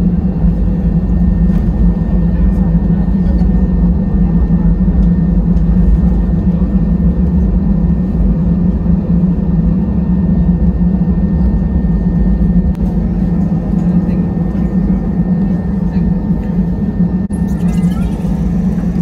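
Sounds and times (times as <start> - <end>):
aircraft engine drone: 0.0 - 19.0
low rumble: 0.0 - 19.0.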